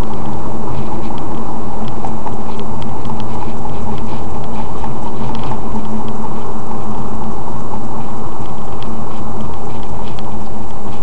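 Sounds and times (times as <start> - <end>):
small clicks and rattles: 0.0 - 6.9, 8.0 - 11.0
car engine and tyre drone: 0.0 - 11.0
low hum: 0.0 - 11.0.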